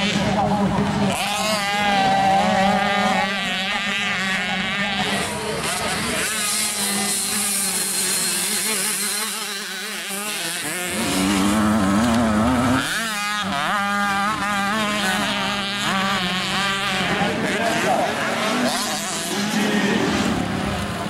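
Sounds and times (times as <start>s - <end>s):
motocross bike engines revving: 0.0s - 21.0s
motocross bike passing close: 0.0s - 21.0s.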